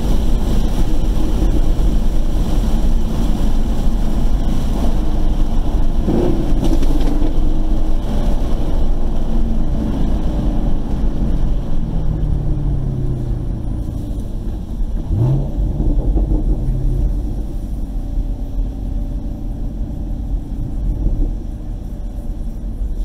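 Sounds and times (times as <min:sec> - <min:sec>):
car engine at low revs: 0:00.0 - 0:23.0
road and wind rumble: 0:00.0 - 0:23.0.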